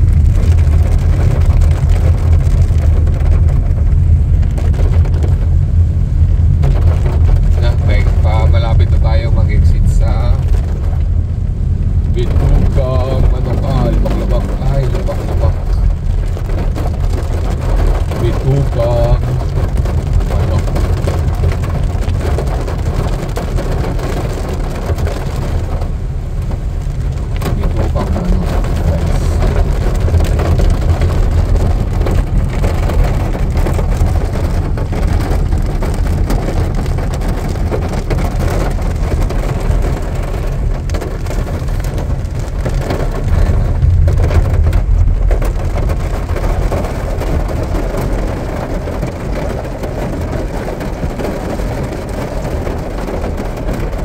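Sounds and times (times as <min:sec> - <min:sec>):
car tyres on wet road rumble: 0:00.0 - 0:54.0
heavy rain on a car: 0:00.0 - 0:54.0.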